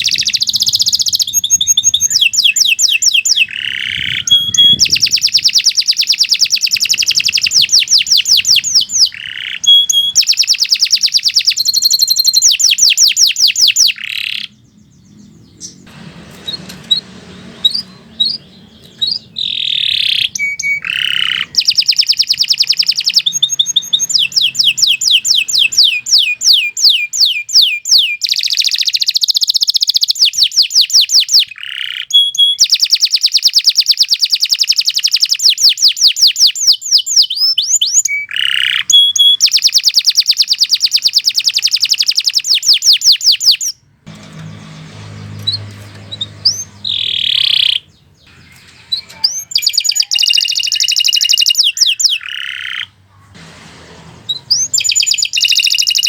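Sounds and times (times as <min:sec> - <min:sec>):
canary singing trills: 0:00.0 - 0:53.3, 0:54.3 - 0:56.0.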